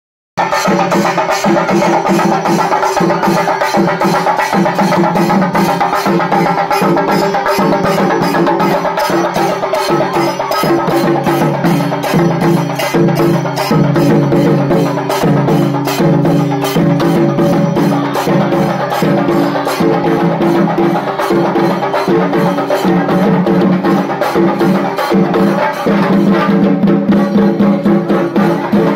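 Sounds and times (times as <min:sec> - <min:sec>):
drums beaten with sticks: 0:00.4 - 0:28.9.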